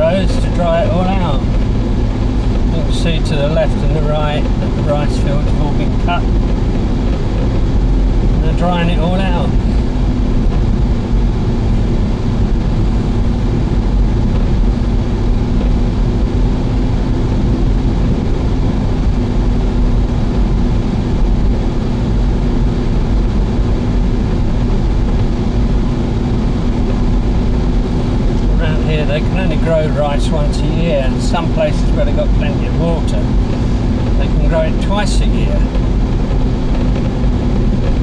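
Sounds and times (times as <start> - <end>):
car road noise from inside: 0.0 - 38.0.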